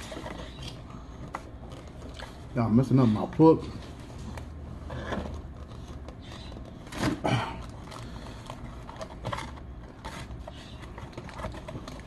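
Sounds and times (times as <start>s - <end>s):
paper rustling and crinkling: 0.0s - 12.0s
steady low hum: 0.0s - 12.0s.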